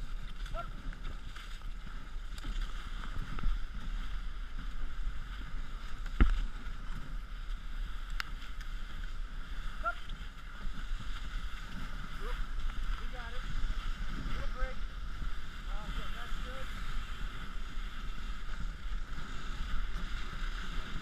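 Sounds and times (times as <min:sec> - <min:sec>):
sled runners hissing over snow: 0:00.0 - 0:21.0.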